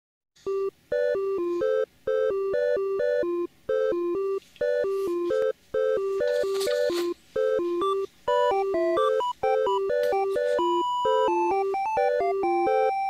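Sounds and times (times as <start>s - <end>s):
electronic beeping lullaby: 0.4s - 13.0s.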